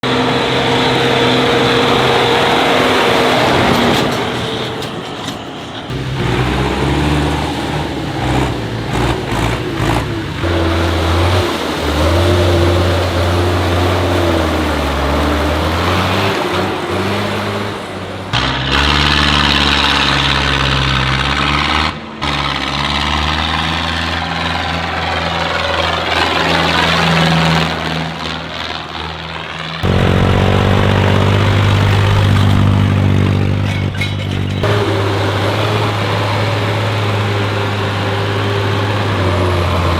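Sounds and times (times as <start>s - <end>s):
tractor engines revving: 0.0s - 39.9s.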